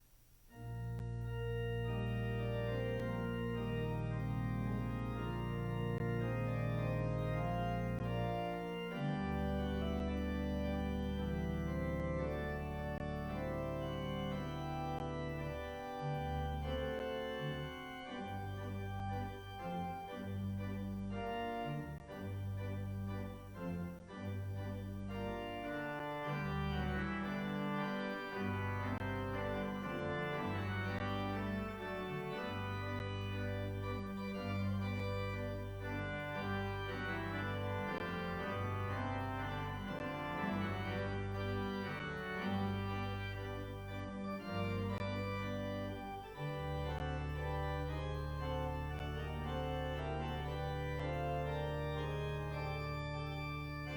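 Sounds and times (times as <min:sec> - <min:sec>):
organ playing slow chords: 0:00.5 - 0:53.9.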